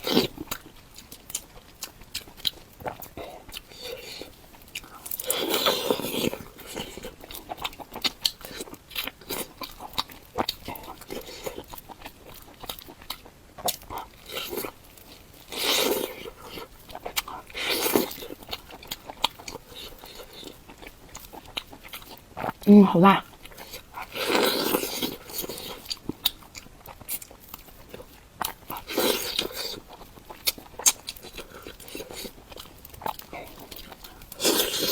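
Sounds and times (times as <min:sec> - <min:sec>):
biting and chewing crunchy food: 0:00.0 - 0:34.9.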